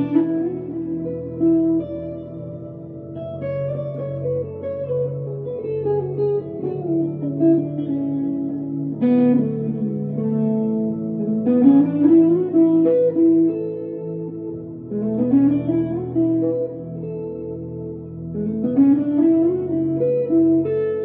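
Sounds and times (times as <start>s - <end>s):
electric guitar through amplifier: 0.0s - 21.0s.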